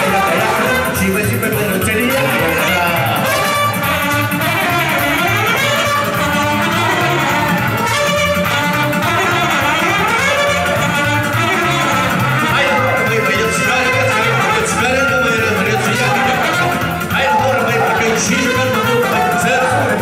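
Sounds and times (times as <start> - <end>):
saxophone: 0.0 - 20.0
steady bass beat: 0.0 - 20.0
trumpet melody: 0.0 - 20.0.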